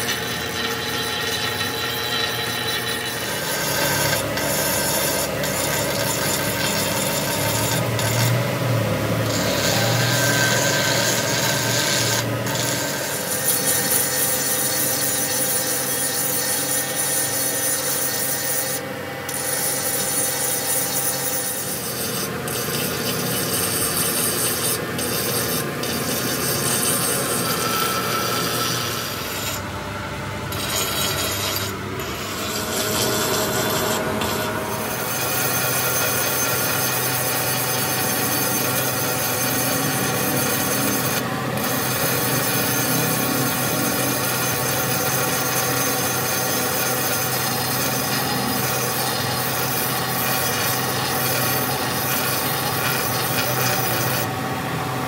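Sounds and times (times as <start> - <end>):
abrasive scraping on metal: 0.0 - 29.7, 30.5 - 54.3.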